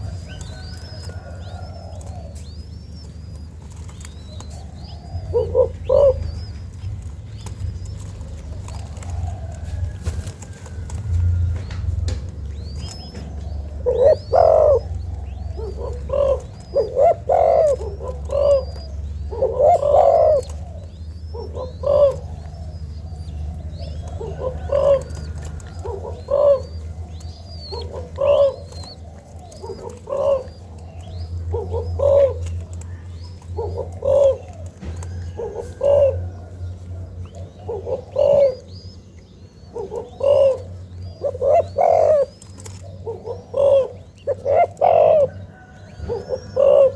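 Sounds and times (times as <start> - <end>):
dove cooing: 0.0 - 46.9
small birds chirping: 0.0 - 46.9.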